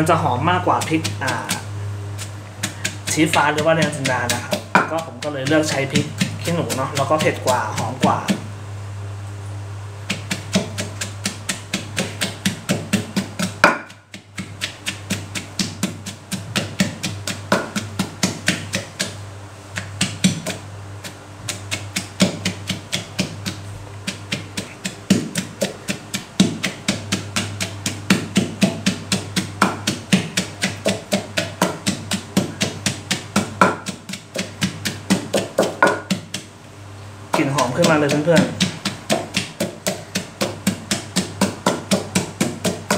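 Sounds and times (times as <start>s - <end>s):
pestle pounding in a clay mortar: 0.0s - 8.5s, 10.0s - 36.6s, 37.3s - 42.9s.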